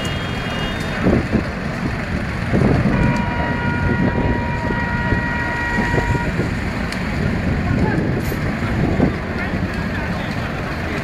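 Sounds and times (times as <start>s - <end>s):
dense fire rumble: 0.0s - 11.0s.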